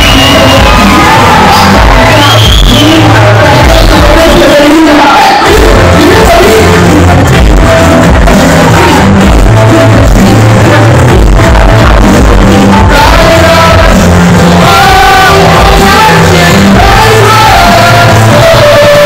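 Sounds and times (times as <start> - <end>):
person singing through microphone: 0.0 - 19.0
pop backing track with heavy bass: 0.0 - 19.0.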